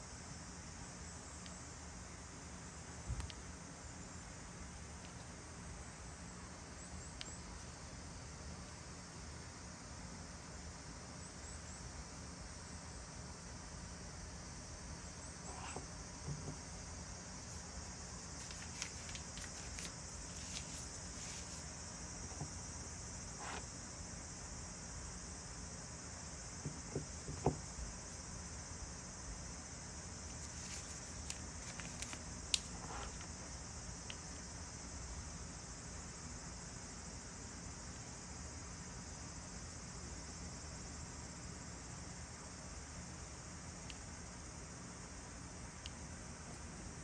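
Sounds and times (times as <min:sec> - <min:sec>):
steady high hiss: 0:00.0 - 0:47.0.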